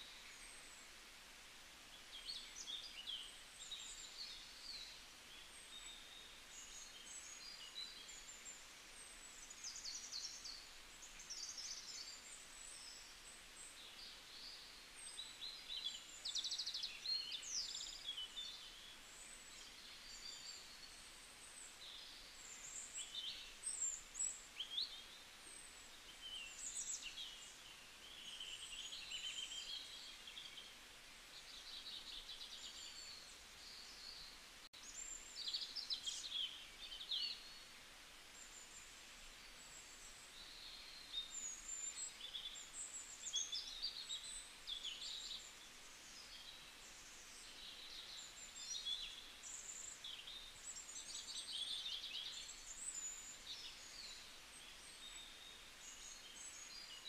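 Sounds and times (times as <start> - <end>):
faint steady hiss: 0.0 - 57.0
small birds chirping: 1.9 - 57.0.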